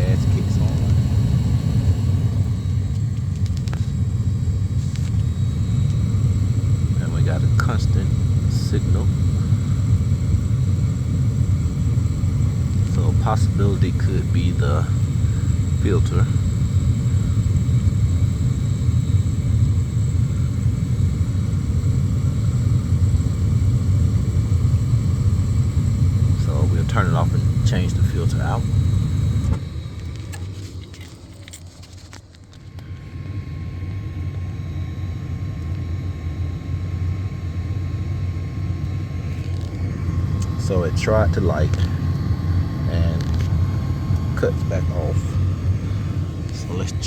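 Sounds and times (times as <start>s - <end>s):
gas furnace rumbling: 0.0s - 47.0s.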